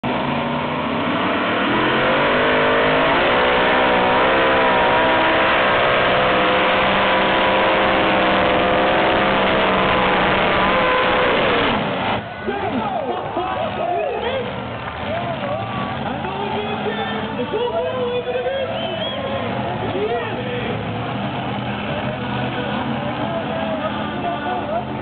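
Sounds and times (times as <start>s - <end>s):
pulling tractor engine roaring: 0.0s - 25.0s.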